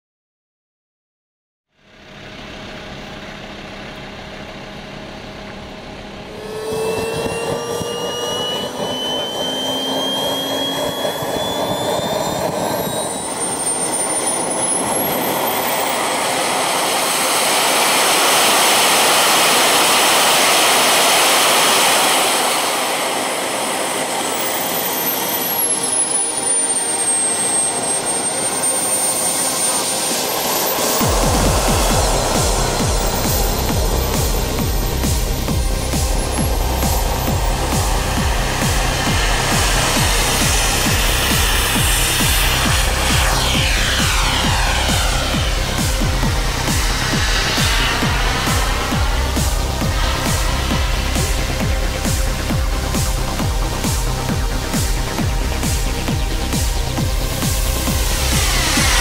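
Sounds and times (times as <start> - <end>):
small gas turbine whine: 1.8 - 59.0.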